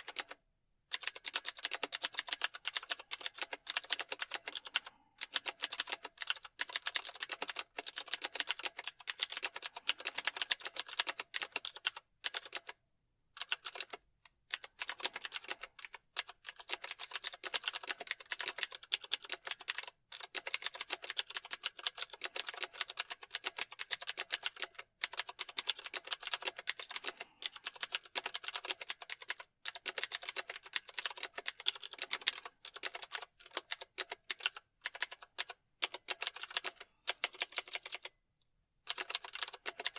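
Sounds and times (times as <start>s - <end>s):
fast typing on keyboard: 0.0s - 12.8s, 13.4s - 38.2s, 38.8s - 39.9s.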